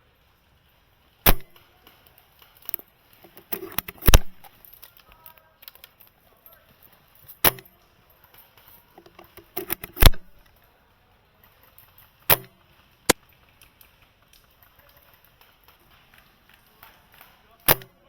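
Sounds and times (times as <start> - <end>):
airsoft rifle clacks: 1.0 - 10.8, 11.4 - 18.0
small metallic clicks: 1.2 - 10.8, 11.4 - 18.0.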